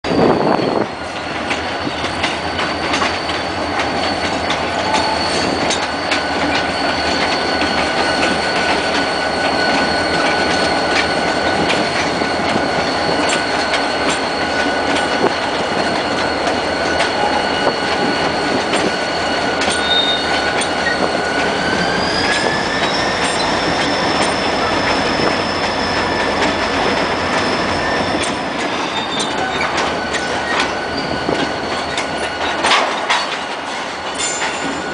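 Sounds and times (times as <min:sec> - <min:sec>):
train cars rolling: 0:00.0 - 0:34.9
high-pitched wheel squeal: 0:00.1 - 0:33.4.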